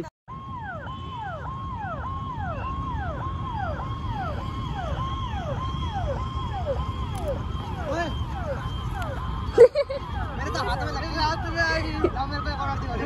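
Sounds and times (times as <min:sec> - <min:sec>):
police siren wailing: 0:00.3 - 0:13.0.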